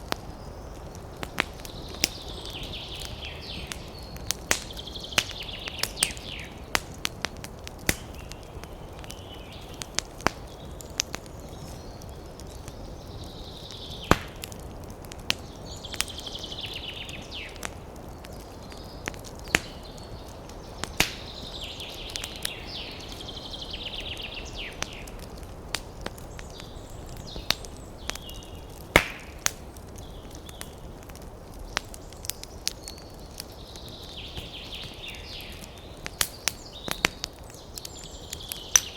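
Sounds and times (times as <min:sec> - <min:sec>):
campfire crackling and popping: 0:00.0 - 0:38.9
birds singing trills: 0:00.1 - 0:07.0, 0:07.9 - 0:14.6, 0:15.3 - 0:31.0, 0:31.6 - 0:38.9.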